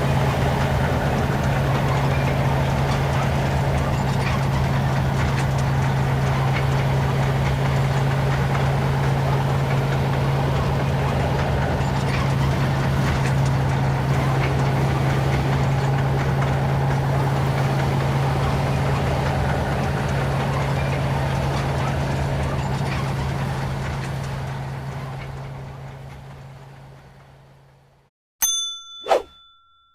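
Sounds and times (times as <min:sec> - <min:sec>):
heavy engine drone: 0:00.0 - 0:28.0
tank tracks rumbling and clattering: 0:00.0 - 0:28.0.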